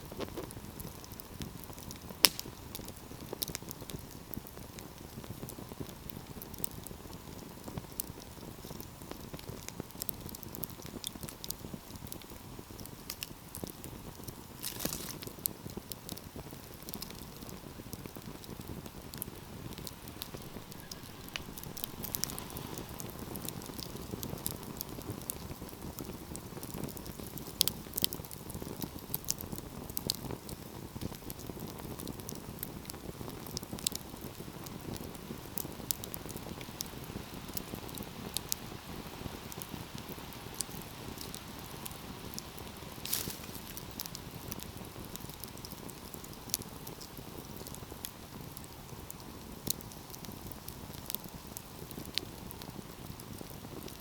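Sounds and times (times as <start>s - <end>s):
low rumble of burning: 0.0s - 54.0s
wood fire crackling: 0.0s - 54.0s
sharp pops of fire: 0.1s - 36.8s, 40.5s - 54.0s.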